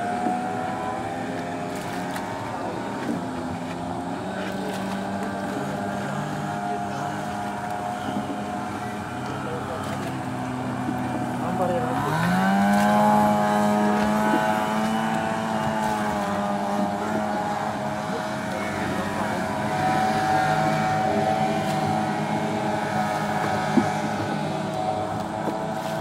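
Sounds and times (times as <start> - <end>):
outboard motor running high: 0.0 - 26.0.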